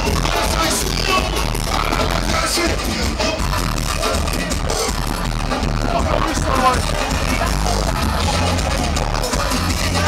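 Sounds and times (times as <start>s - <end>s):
loud live band music with heavy bass: 0.0s - 10.0s.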